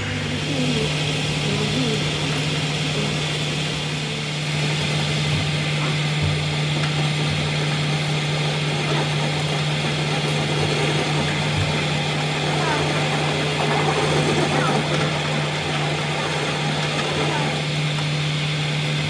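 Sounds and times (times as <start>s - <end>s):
machine running: 0.0s - 19.0s.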